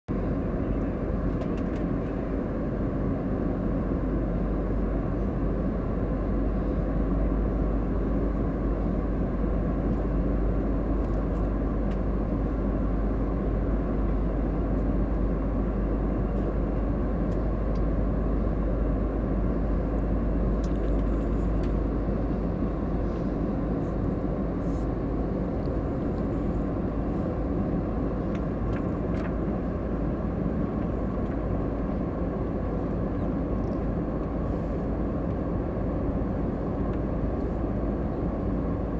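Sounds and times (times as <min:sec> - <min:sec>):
jet engines and airflow rush: 0:00.1 - 0:38.9.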